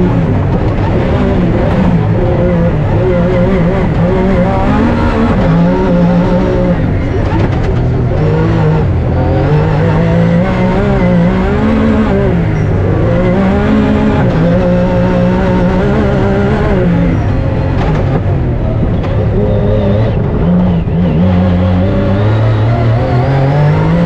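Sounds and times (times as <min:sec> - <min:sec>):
car engine revving through gears: 0:00.0 - 0:24.0.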